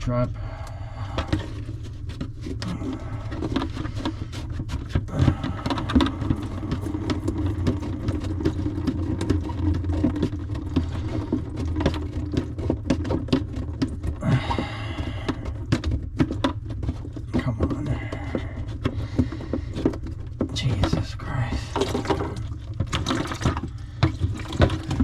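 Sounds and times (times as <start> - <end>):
steady low hum: 0.0 - 25.0
plastic pipe clicks and knocks: 1.1 - 25.0.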